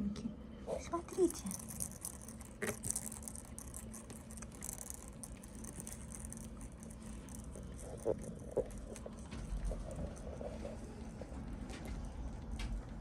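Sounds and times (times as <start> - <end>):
kitten paws pattering and scratching: 0.8 - 13.0.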